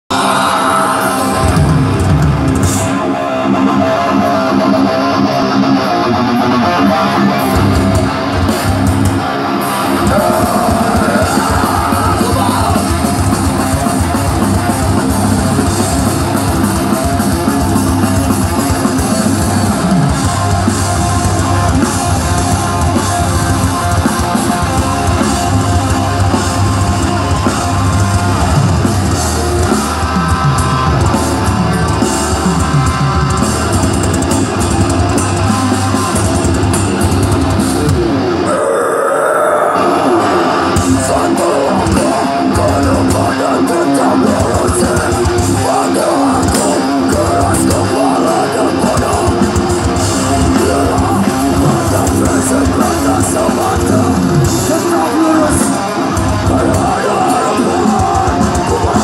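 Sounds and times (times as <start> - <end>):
distorted electric guitars: 0.0 - 59.0
drum kit: 0.1 - 38.7, 39.4 - 59.0.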